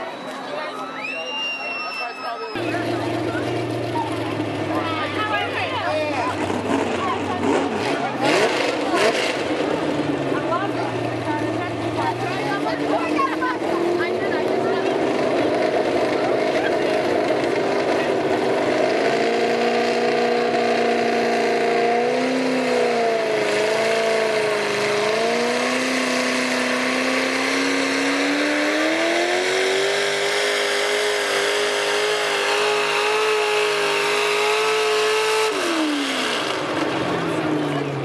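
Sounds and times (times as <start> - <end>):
truck engine revving: 2.6 - 38.0.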